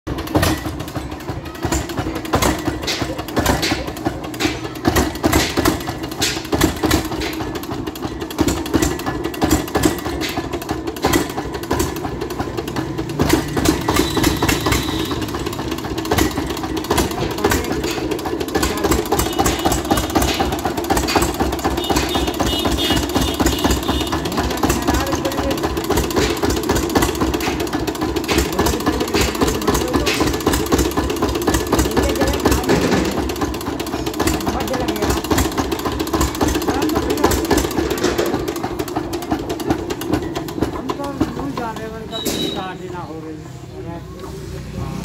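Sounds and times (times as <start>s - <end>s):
diesel engine knocking beat: 0.0s - 43.9s.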